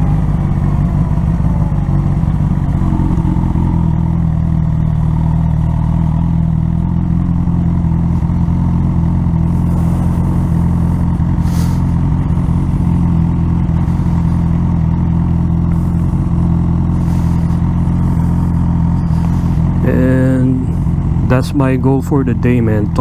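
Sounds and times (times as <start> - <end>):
motorcycle engine running steadily: 0.0 - 23.0.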